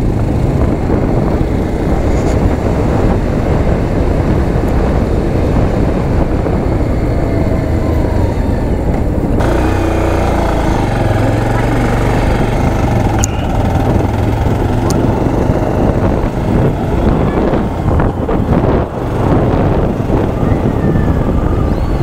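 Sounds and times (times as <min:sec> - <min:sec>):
motorcycle engine: 0:00.0 - 0:22.0
riding noise rush: 0:00.0 - 0:22.0.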